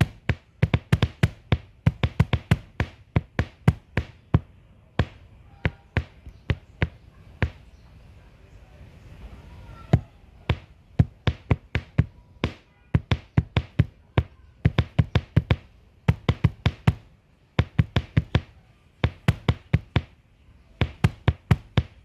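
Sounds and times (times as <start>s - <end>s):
sharp knocking: 0.0s - 7.7s, 9.8s - 22.0s.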